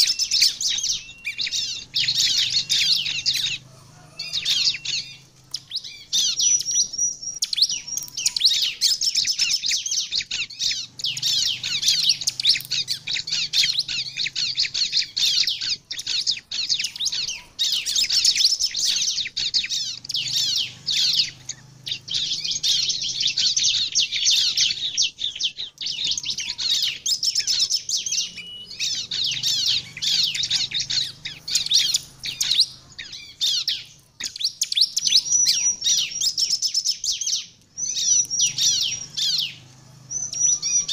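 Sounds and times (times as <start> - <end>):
bird high rapid chirping song: 0.0 - 40.9.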